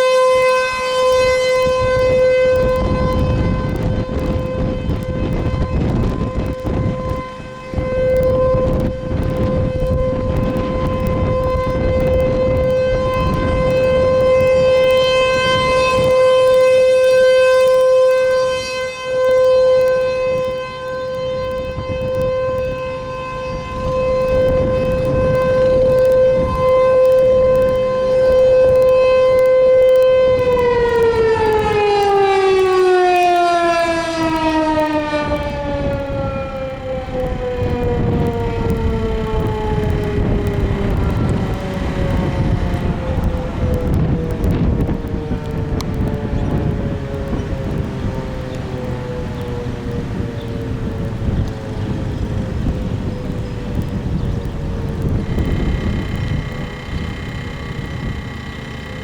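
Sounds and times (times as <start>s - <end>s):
warning siren alert tone: 0.0s - 59.0s.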